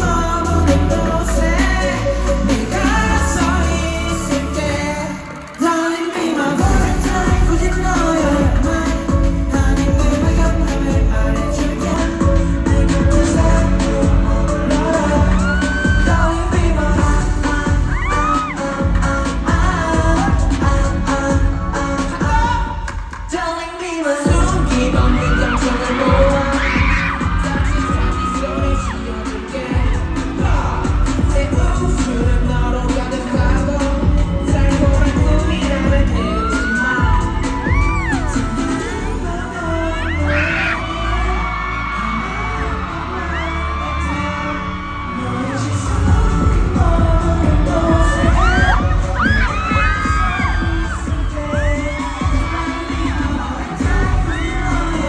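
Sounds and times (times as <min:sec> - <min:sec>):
heavy drum beat and bass: 0:00.0 - 0:23.6, 0:24.2 - 0:39.4, 0:45.6 - 0:55.0
person singing: 0:00.0 - 0:55.0
pop band backing track: 0:00.0 - 0:55.0.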